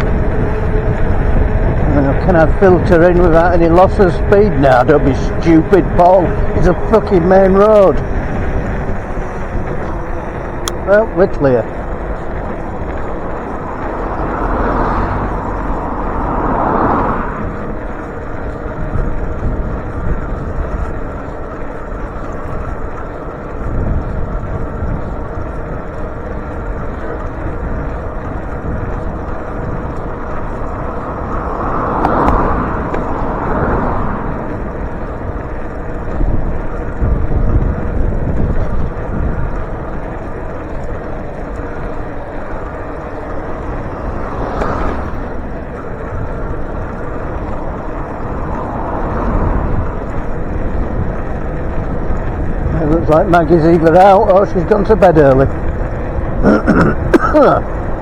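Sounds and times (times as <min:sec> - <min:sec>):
road traffic: 0:00.0 - 0:58.0
vehicles passing: 0:00.0 - 0:58.0
wind rumbling on microphone: 0:00.0 - 0:58.0.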